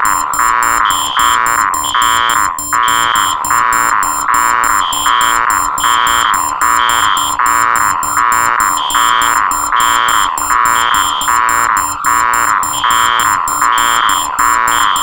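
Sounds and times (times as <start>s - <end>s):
alarm buzzing: 0.0s - 15.0s
higher alarm tone: 0.0s - 15.0s
pulsing alarm beep: 0.0s - 15.0s
rapid high beeps: 0.0s - 15.0s.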